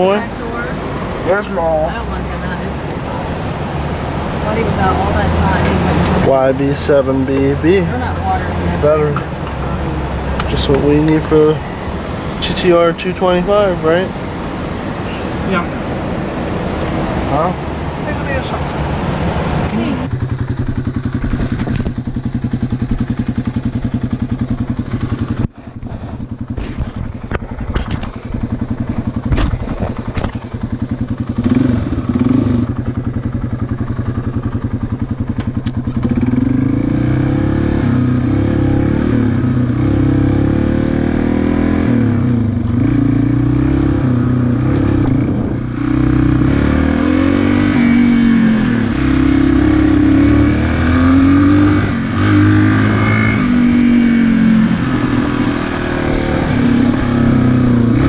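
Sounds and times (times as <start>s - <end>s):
dirt bike engine idling and revving: 0.0s - 58.0s.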